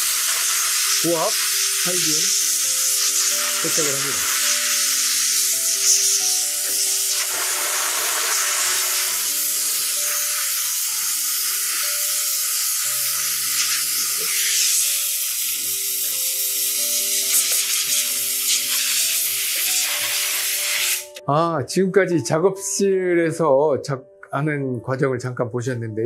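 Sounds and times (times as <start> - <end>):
steam cleaner jet hissing: 0.0 - 21.2
slow background music: 0.0 - 26.0.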